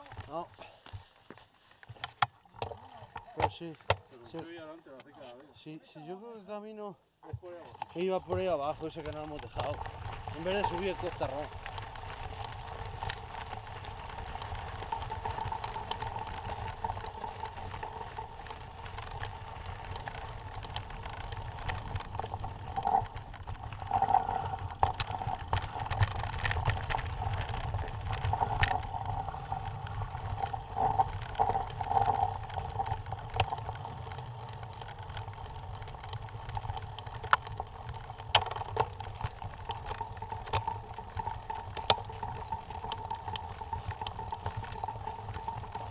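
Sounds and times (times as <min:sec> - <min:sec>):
bike tyres on gravel: 0:00.0 - 0:05.7, 0:07.4 - 0:45.9
constant buzz: 0:07.0 - 0:45.9
bike rattling and knocking: 0:07.3 - 0:45.9.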